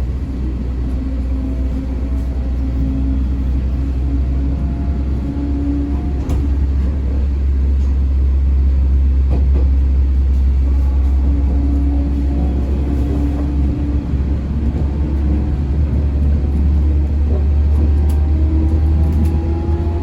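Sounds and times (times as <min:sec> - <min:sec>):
train low rumble: 0:00.0 - 0:20.0.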